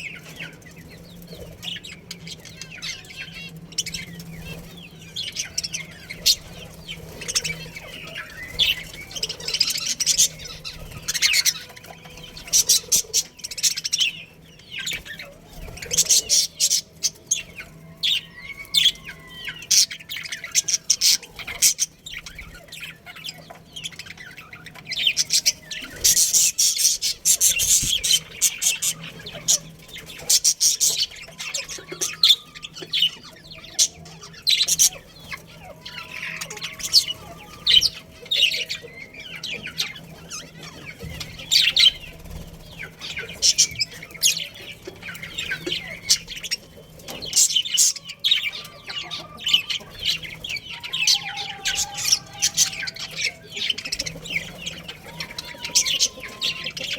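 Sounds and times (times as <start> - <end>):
budgerigars chirping: 0.0 - 56.9.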